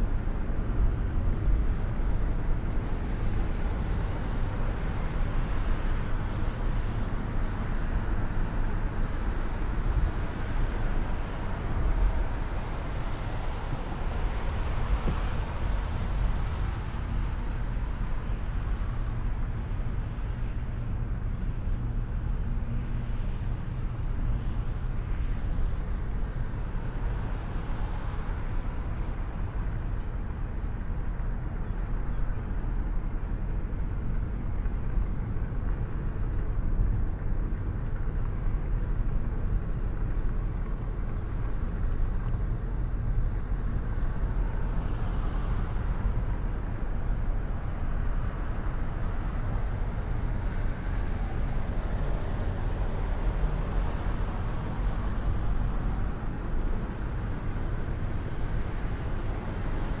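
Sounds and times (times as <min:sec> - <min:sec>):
car interior engine and tyre rumble: 0:00.0 - 1:00.0.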